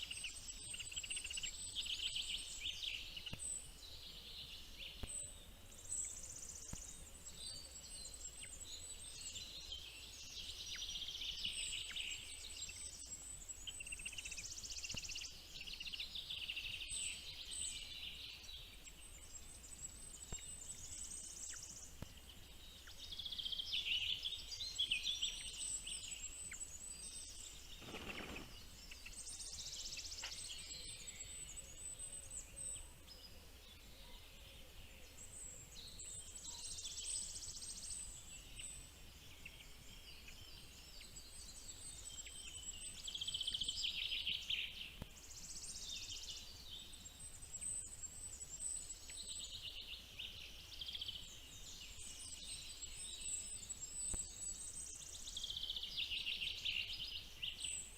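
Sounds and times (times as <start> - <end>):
birds chirping and trilling: 0.0 - 57.9
faint steady hiss: 0.0 - 57.9.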